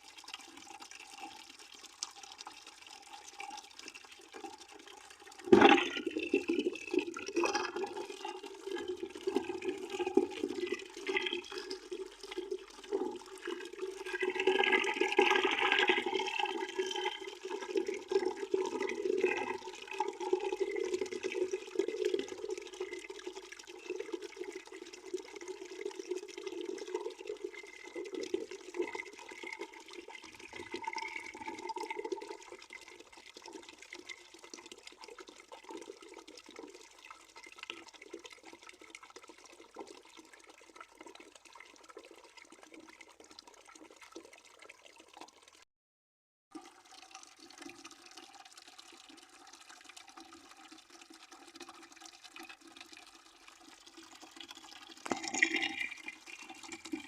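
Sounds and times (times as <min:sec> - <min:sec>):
water running from a tap into a bucket: 0:00.0 - 0:45.6, 0:46.5 - 0:57.0.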